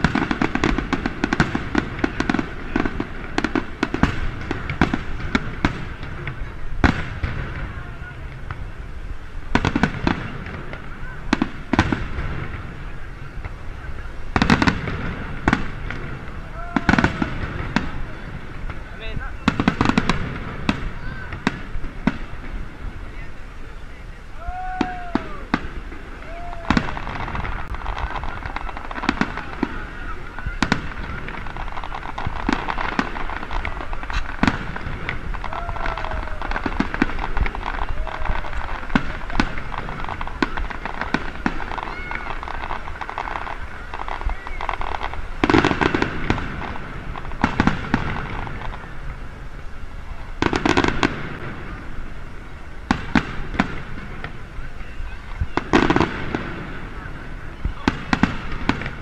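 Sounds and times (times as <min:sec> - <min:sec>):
crowd voices: 0:00.0 - 0:59.0
fireworks bursting and crackling: 0:00.0 - 0:59.0.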